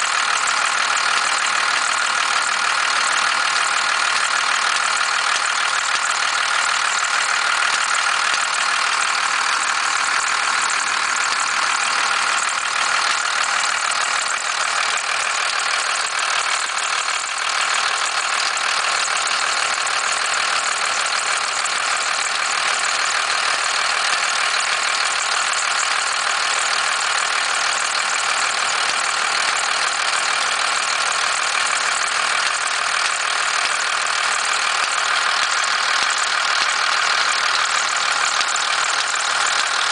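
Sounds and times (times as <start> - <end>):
diesel engine idling with knock: 0.0 - 39.9.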